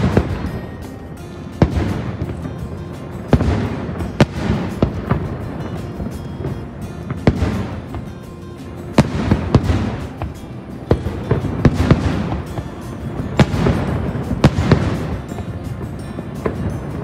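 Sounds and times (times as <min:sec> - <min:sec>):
fireworks bangs: 0:00.0 - 0:17.0
steady background noise: 0:00.0 - 0:17.0.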